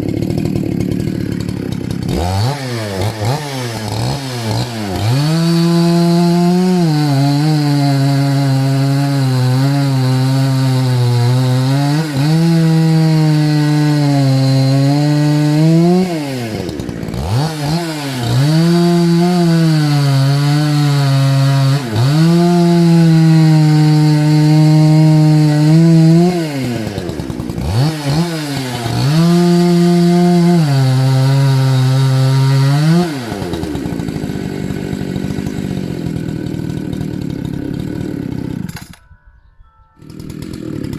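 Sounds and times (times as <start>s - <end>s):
chainsaw cutting wood: 0.0s - 39.1s, 40.0s - 40.9s.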